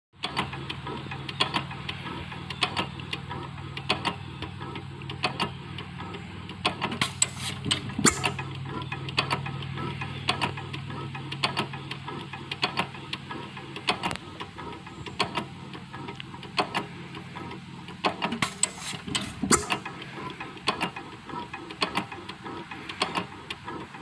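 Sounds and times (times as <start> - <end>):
hit-and-miss engine running: 0.2 - 24.0
sharp mechanical clicks: 0.2 - 24.0
loud noisy engine bursts: 0.5 - 24.0.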